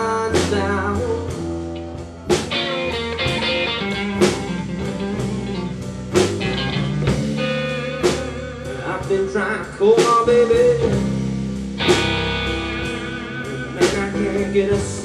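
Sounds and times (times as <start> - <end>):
acoustic-electric guitar: 0.0 - 15.0
slow blues on electric guitar: 0.0 - 15.0.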